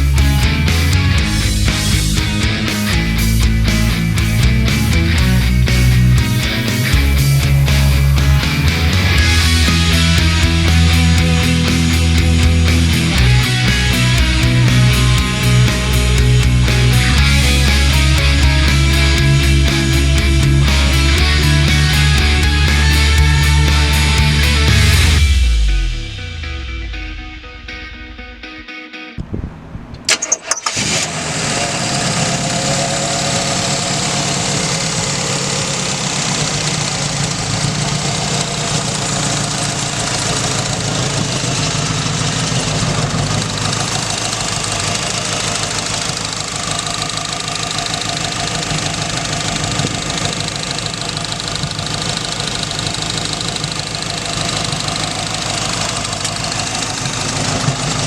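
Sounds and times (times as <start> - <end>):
car engine starting and idling: 0.0 - 58.0.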